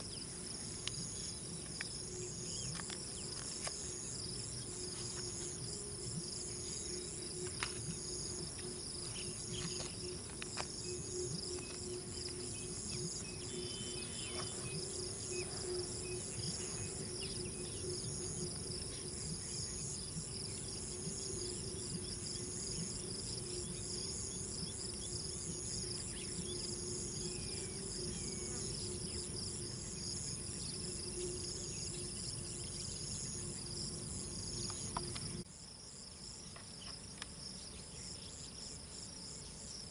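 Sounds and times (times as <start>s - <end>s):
low steady hum: 0.0s - 35.5s
insects chirring: 0.0s - 39.9s.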